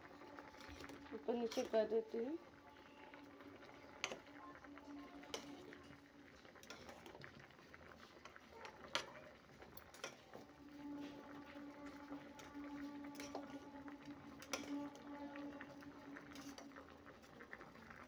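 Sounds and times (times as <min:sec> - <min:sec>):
spoon stirring in boiling water: 0:00.0 - 0:18.0.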